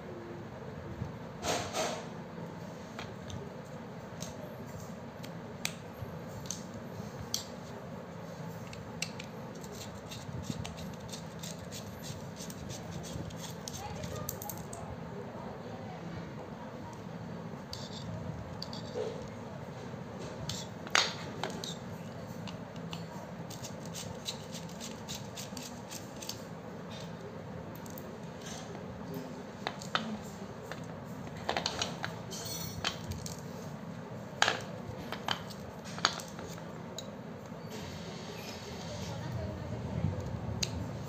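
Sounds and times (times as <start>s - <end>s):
steady background noise: 0.0s - 41.0s.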